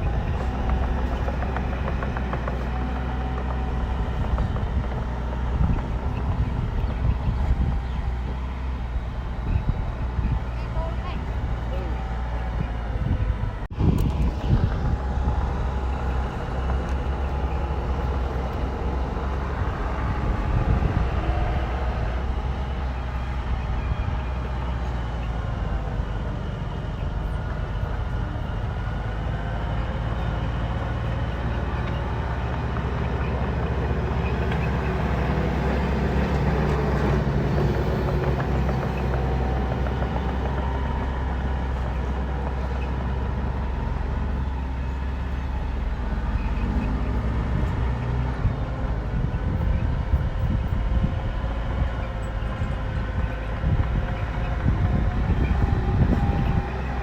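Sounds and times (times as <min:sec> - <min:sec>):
bulldozer diesel engine rumbling: 0:00.0 - 0:57.0.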